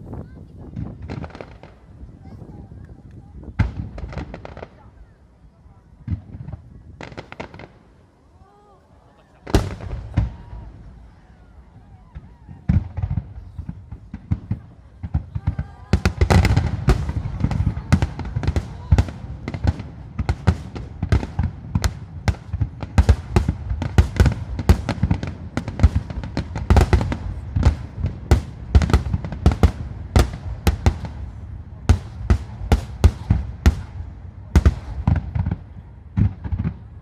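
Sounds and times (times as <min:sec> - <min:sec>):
fireworks bursting: 0:00.2 - 0:08.6, 0:09.2 - 0:37.0.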